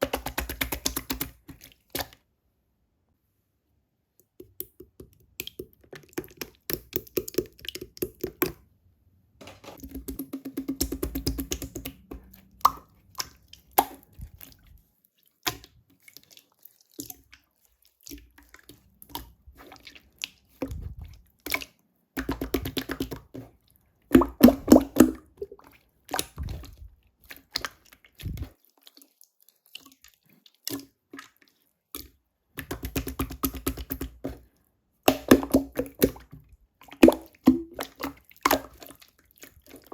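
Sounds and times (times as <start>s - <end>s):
slime squishing with wet clicks: 0.0s - 2.3s, 4.1s - 8.7s, 9.8s - 39.9s.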